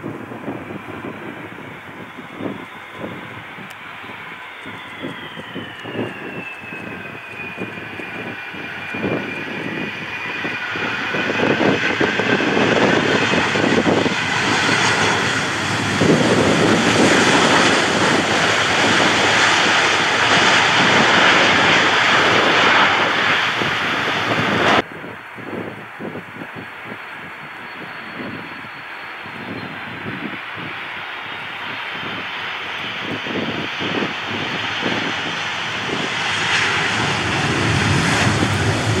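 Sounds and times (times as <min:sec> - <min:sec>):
jet airliner engine whine: 0:00.0 - 0:39.0.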